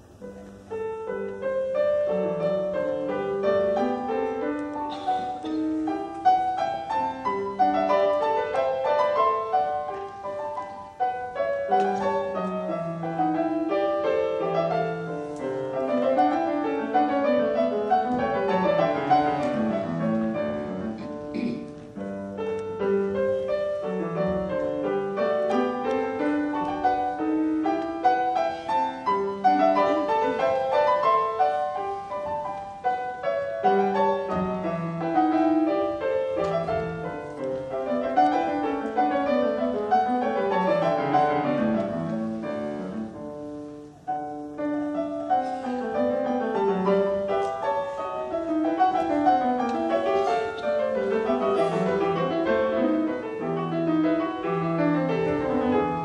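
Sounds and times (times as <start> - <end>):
grand piano classical music: 0.0 - 56.0.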